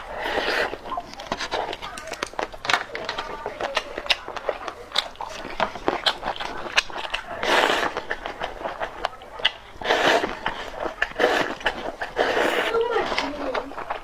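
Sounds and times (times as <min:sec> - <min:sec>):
slurps: 0:00.0 - 0:14.0
wet chewing with mouth clicks: 0:00.0 - 0:14.0.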